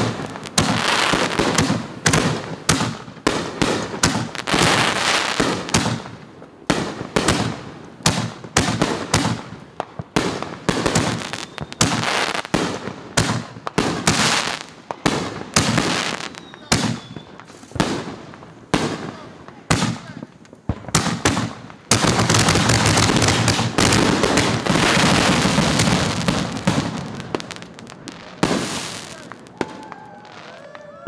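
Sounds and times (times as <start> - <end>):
fireworks banging: 0.0 - 31.0.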